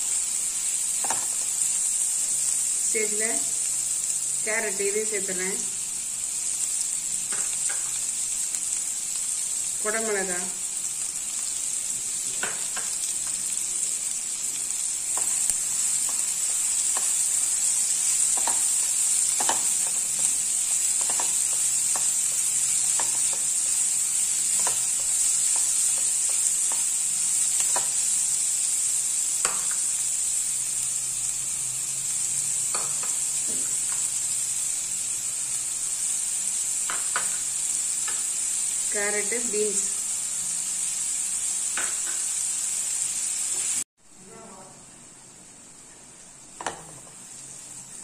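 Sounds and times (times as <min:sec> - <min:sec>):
vegetables sizzling in oil: 0:00.0 - 0:48.0.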